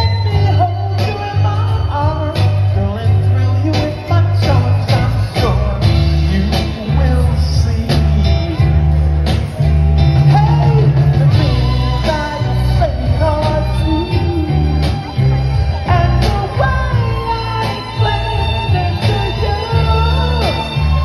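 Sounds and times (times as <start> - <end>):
bass line: 0.0 - 21.0
drums: 0.0 - 21.0
man singing: 0.0 - 21.0
soul band playing: 0.0 - 21.0.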